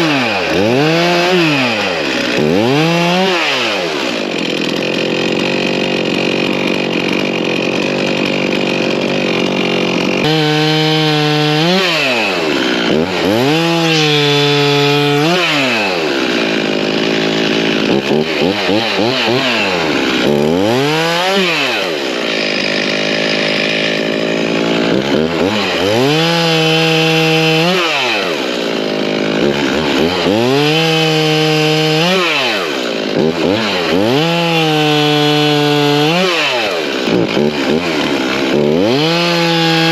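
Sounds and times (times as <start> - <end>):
chainsaw cutting branches: 0.0 - 39.9.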